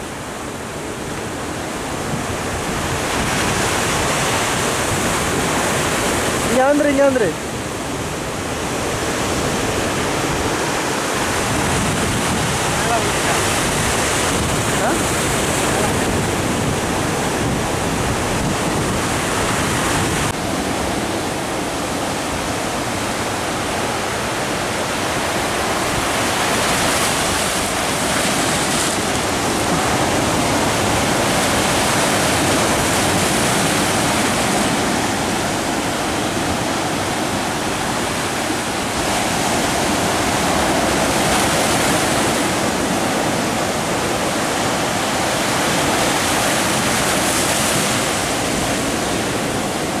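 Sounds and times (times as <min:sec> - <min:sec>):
surf breaking over rocks: 0:00.0 - 0:50.0.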